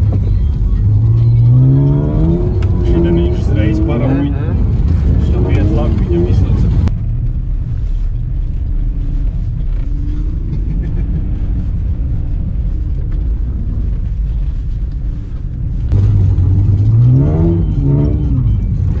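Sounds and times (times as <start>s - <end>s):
car engine rumble inside cabin: 0.0s - 19.0s.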